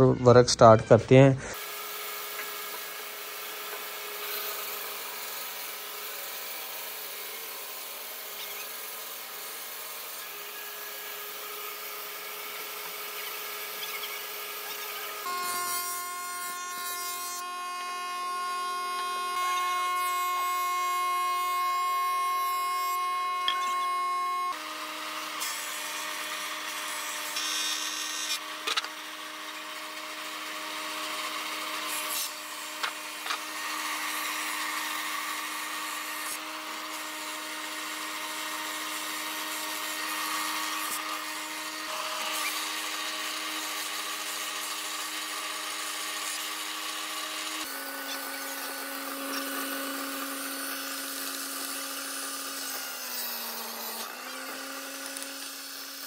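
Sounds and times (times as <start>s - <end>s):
table saw cutting plank: 0.0s - 56.0s
thickness planer cutting plank: 1.5s - 56.0s.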